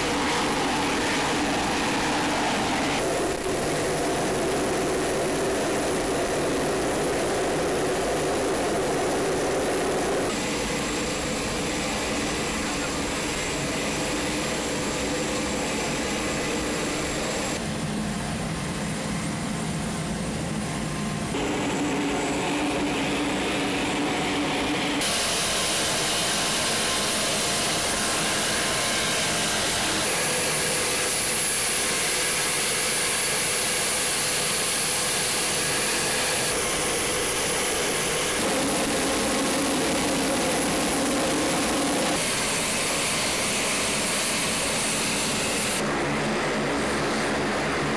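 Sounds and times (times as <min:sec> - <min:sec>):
aircraft engine whine: 0:00.0 - 0:47.9.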